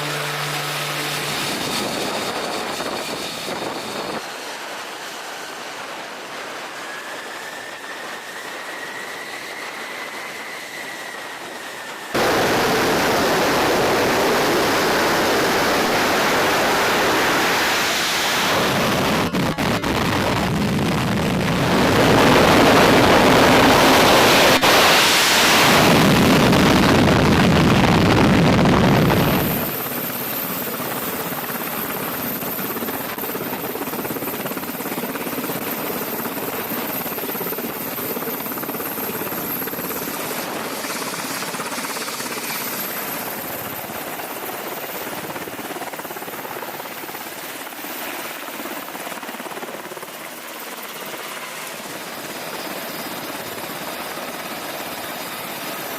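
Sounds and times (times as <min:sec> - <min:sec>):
aircraft engine with high whine: 0:00.0 - 0:55.9
loud jet engine noise: 0:00.0 - 0:55.9.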